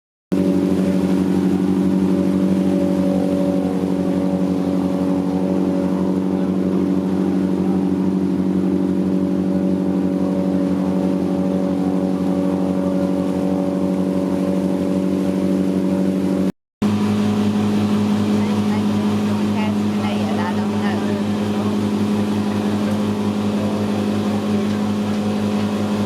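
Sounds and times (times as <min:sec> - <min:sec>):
boat engine running: 0:00.3 - 0:26.0.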